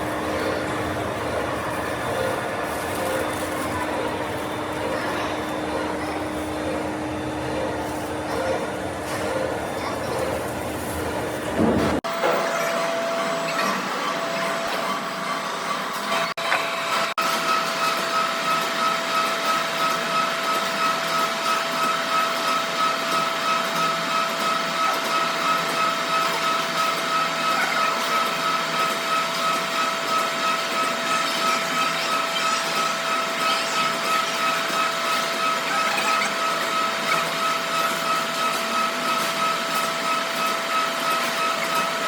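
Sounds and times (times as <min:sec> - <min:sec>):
workshop machine whining: 0:00.0 - 0:42.0.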